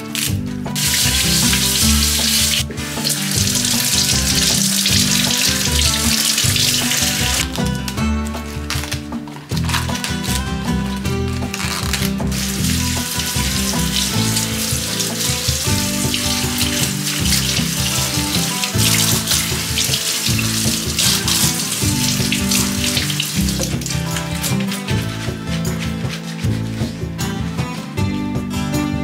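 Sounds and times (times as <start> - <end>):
tap water splashing: 0.0 - 27.0
background music: 0.0 - 29.0.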